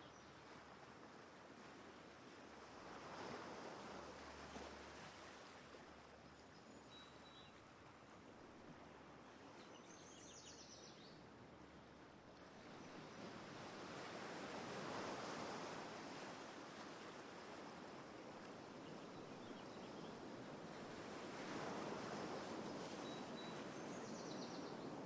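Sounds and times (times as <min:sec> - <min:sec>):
faint ocean surf: 0:00.0 - 0:10.0, 0:10.9 - 0:25.0.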